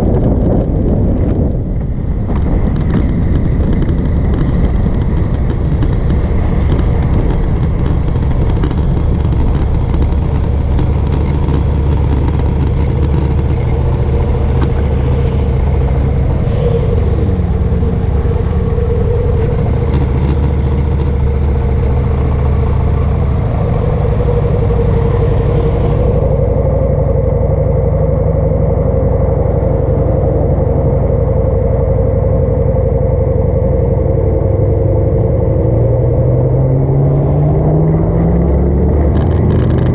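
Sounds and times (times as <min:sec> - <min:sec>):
wind noise on microphone: 0:00.0 - 0:39.9
motorcycle engine idling: 0:00.5 - 0:35.7.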